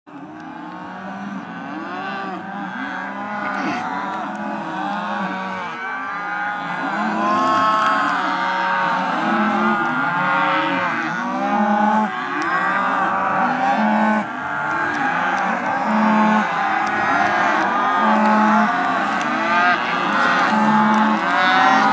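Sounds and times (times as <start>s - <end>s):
calves bawling: 2.0s - 21.9s.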